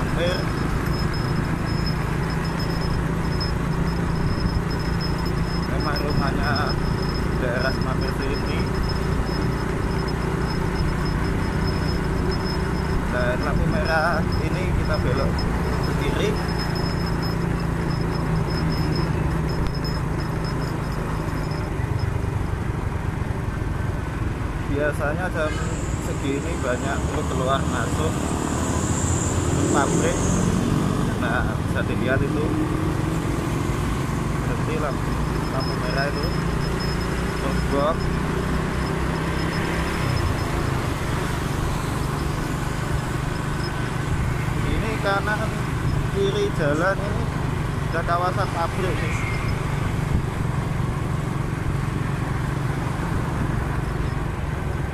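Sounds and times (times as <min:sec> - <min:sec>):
motorcycle engine running: 0:00.0 - 0:54.9
road noise: 0:00.0 - 0:54.9
surrounding vehicles: 0:00.0 - 0:54.9.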